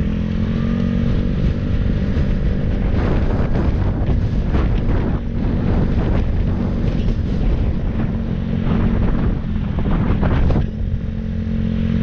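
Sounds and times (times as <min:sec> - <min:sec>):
vehicle engine running: 0:00.0 - 0:12.0
wind buffeting microphone: 0:00.0 - 0:12.0.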